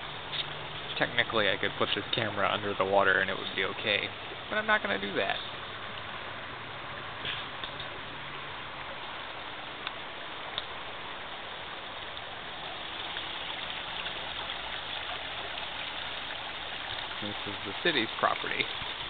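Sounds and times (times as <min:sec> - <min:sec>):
stream burbling over rocks: 0:00.0 - 0:19.0.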